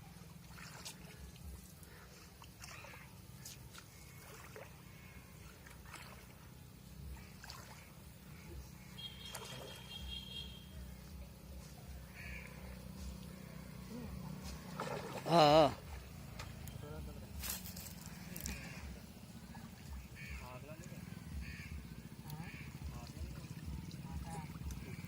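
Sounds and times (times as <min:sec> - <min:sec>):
steady low hum: 0:00.0 - 0:25.0
water trickling and splashing: 0:00.0 - 0:25.0.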